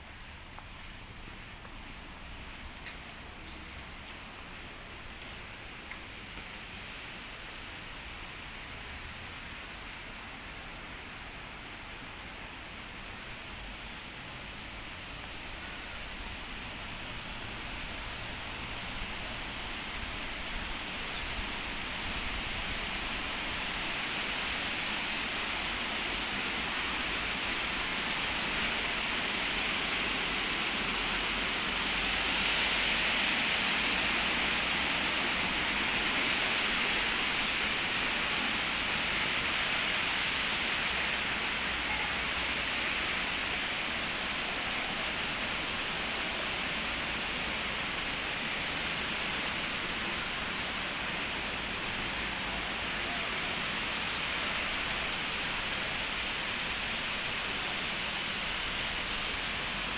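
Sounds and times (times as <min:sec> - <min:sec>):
fountain water splashing: 0:04.8 - 0:59.9.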